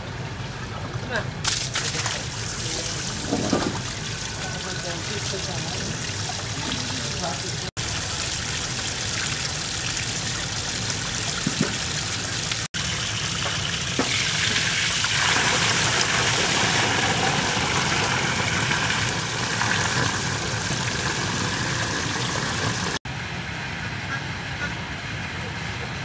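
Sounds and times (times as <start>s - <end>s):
water pouring in a stream: 0.0s - 23.0s.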